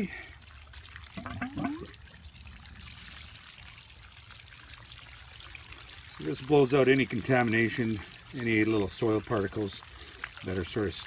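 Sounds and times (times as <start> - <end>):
water spraying and splashing: 0.0 - 11.0.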